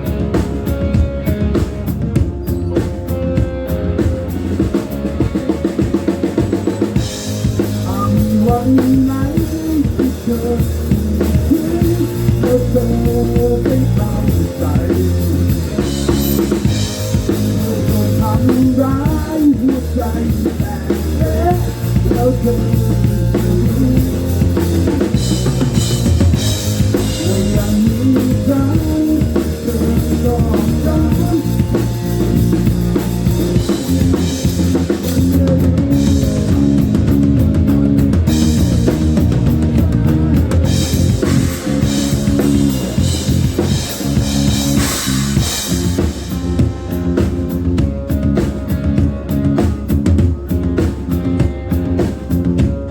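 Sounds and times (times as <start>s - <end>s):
loud rock music: 0.0s - 52.9s.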